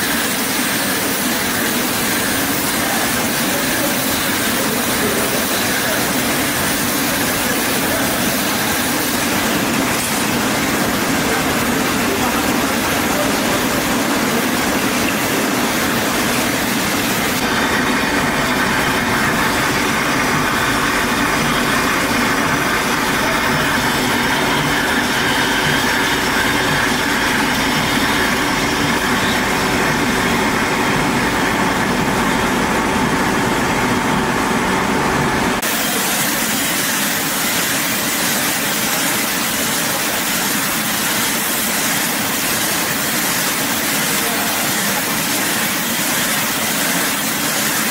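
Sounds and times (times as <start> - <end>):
bottle filling line running: 0.0 - 47.9.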